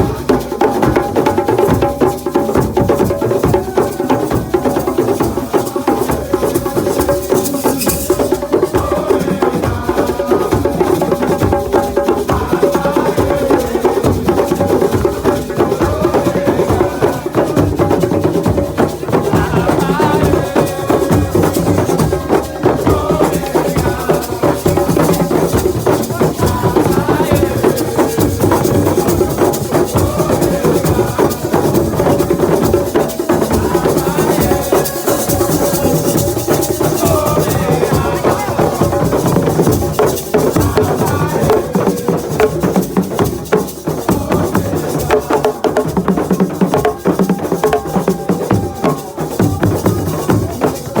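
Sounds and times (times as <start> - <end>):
group singing: 0.0 - 51.0
hand drum percussion: 0.0 - 51.0
shaker rattling: 2.9 - 9.2, 12.0 - 51.0.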